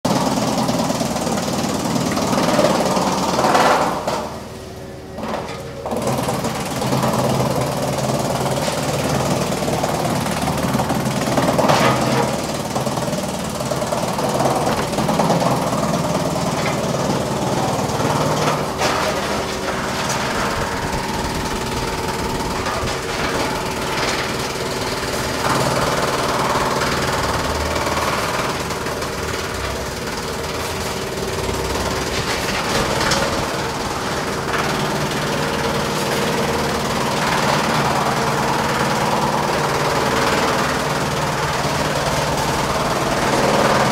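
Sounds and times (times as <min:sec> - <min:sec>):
wood chipper chipping logs: 0:00.1 - 0:43.9.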